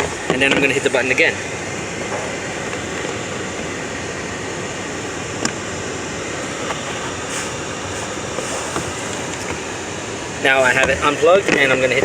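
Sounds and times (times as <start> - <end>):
car climate-control blower rushing: 0.0 - 12.0
car engine running: 0.0 - 12.0.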